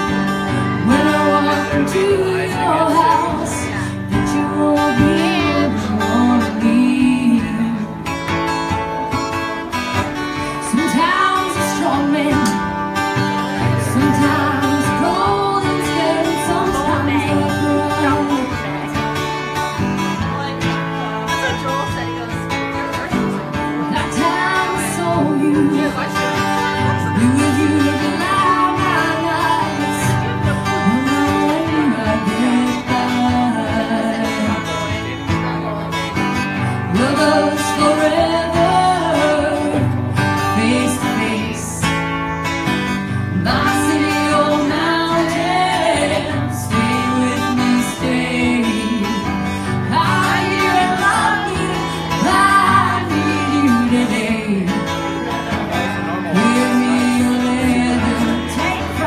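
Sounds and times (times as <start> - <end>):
woman singing: 0.0 - 8.2, 10.4 - 19.1, 23.8 - 35.1, 36.8 - 42.2, 43.0 - 55.1, 56.2 - 59.0
guitar strumming: 0.0 - 59.0.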